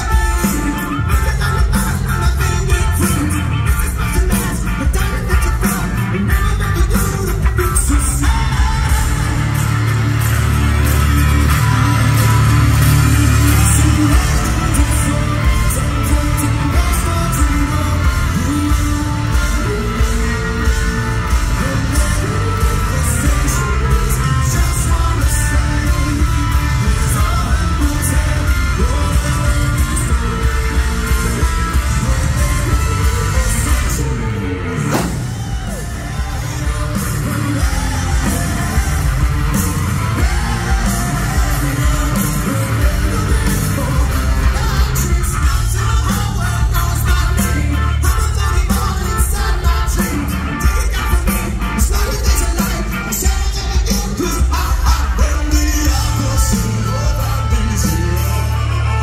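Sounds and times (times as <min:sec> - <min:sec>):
distorted electric guitars: 0:00.0 - 0:59.0
drums keeping steady beat: 0:00.0 - 0:59.0
lead voice singing: 0:00.0 - 0:59.0
live rock band: 0:00.0 - 0:59.0.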